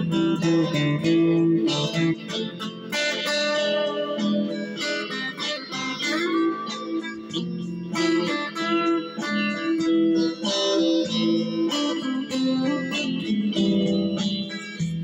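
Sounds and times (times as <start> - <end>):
guitar plucked notes and chords: 0.0 - 15.0.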